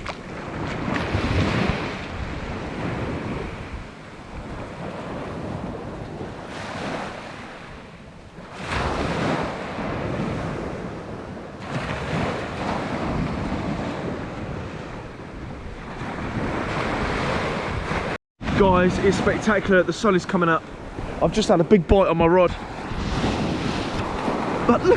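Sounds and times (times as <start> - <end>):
waves breaking on beach: 0.0 - 24.9
wind buffeting microphone: 0.0 - 24.9.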